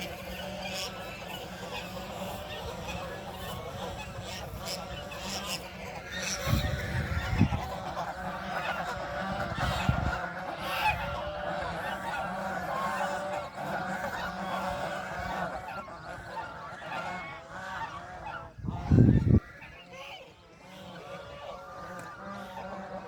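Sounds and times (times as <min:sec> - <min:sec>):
flock of birds honking: 0:00.0 - 0:23.0.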